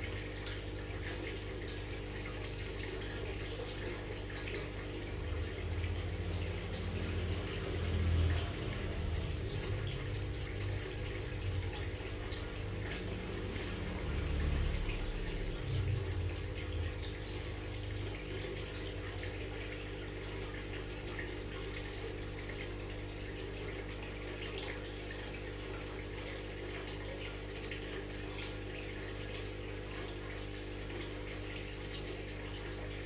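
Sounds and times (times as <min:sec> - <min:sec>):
aquarium water splashing and bubbling: 0:00.0 - 0:33.0
filter pump hum: 0:00.0 - 0:33.0.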